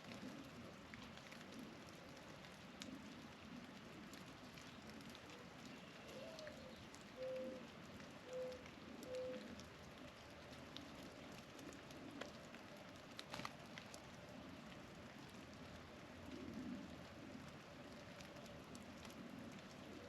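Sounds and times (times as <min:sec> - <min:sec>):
dove cooing: 0:00.0 - 0:13.5, 0:16.0 - 0:20.0
faint steady patter: 0:00.0 - 0:20.0.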